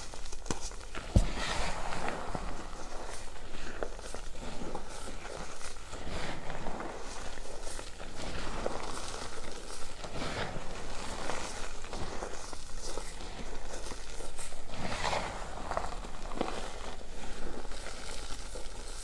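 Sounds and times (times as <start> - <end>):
hands crunching chalk powder: 0.0 - 19.0.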